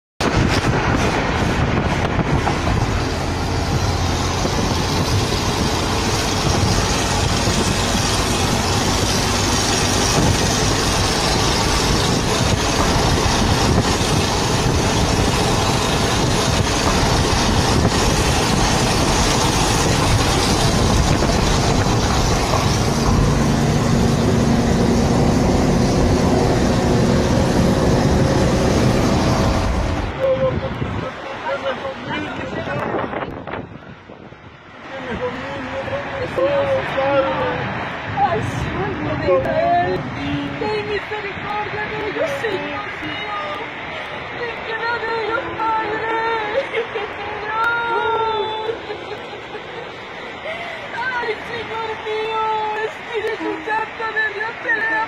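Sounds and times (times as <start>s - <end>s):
car road and wind noise: 0.2s - 55.0s.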